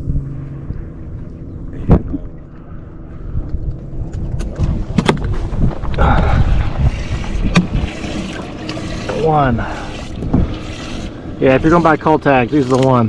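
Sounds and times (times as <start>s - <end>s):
wind buffeting microphone: 0.0s - 12.5s.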